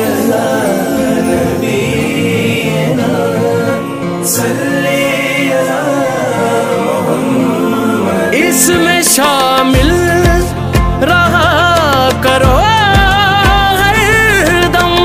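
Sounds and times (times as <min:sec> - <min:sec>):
devotional singing: 0:00.0 - 0:15.0
musical backing: 0:00.0 - 0:15.0.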